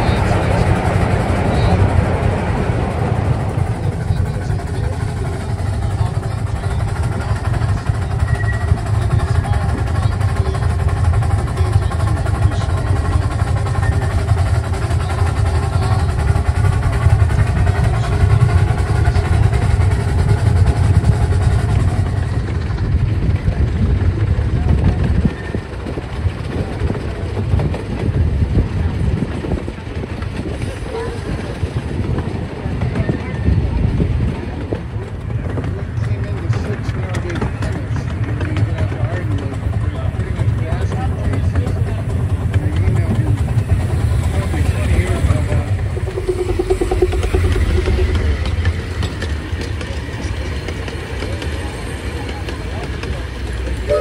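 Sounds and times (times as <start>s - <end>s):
miniature train rumbling on track: 0.0s - 54.0s.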